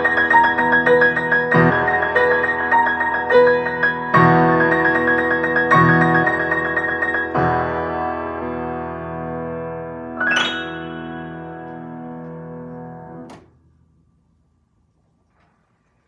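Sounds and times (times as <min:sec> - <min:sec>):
solo piano playing: 0:00.0 - 0:13.4.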